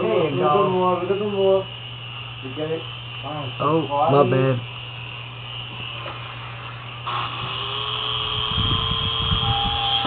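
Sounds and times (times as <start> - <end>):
small electric motors whining: 0.0 - 10.0.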